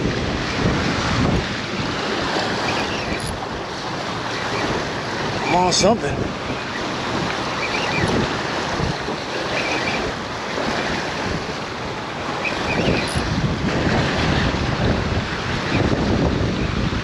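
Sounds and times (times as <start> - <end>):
water washing against shore: 0.0 - 17.0
wind buffeting microphone: 0.0 - 17.0.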